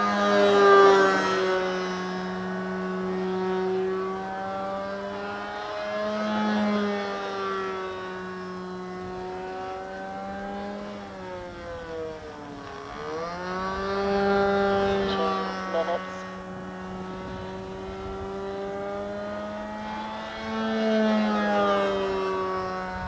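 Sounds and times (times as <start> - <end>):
model plane engine: 0.0 - 23.0.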